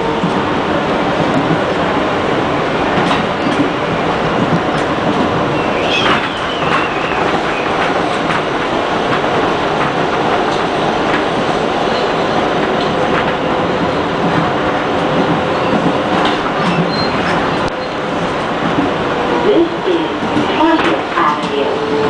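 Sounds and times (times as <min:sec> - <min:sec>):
subway train running: 0:00.0 - 0:22.0.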